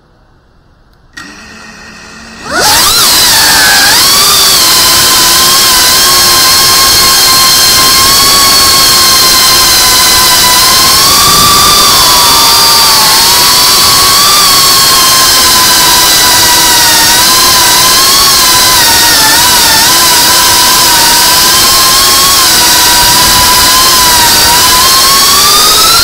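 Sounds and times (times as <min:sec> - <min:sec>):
quadcopter motors whining: 0:01.2 - 0:26.0.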